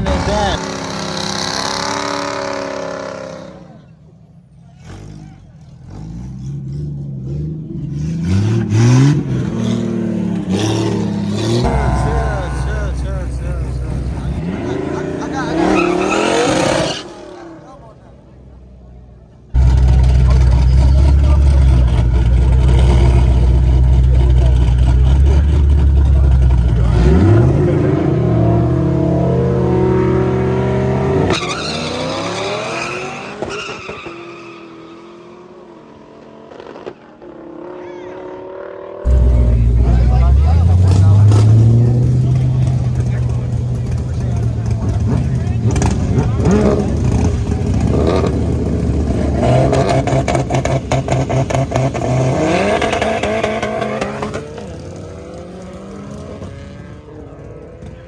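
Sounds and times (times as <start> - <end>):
car accelerating hard: 4.8 - 18.0, 19.6 - 58.0.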